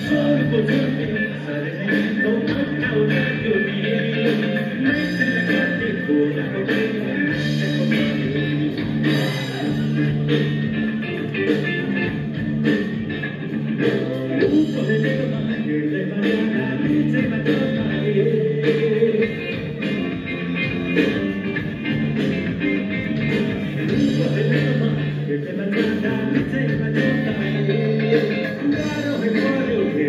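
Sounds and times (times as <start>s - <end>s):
song with guitar and beat: 0.0s - 30.0s.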